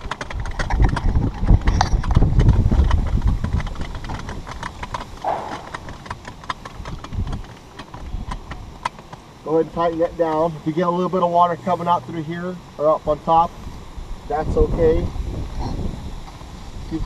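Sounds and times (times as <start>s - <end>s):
heavy rumbling handling noise: 0.0s - 17.0s.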